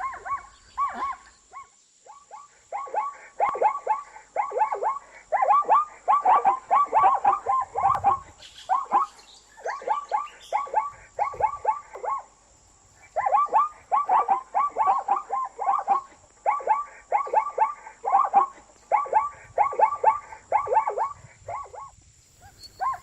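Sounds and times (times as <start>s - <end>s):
zebra bark-like yelps: 0.0s - 12.4s, 13.0s - 23.0s.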